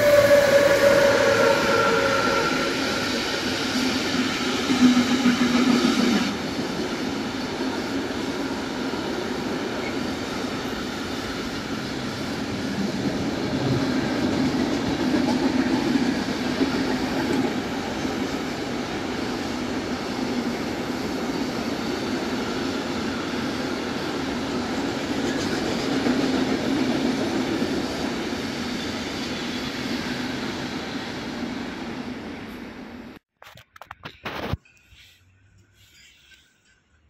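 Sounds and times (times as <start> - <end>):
train wheels rumbling and clattering: 0.0 - 31.6
electric locomotive whine: 0.0 - 33.2.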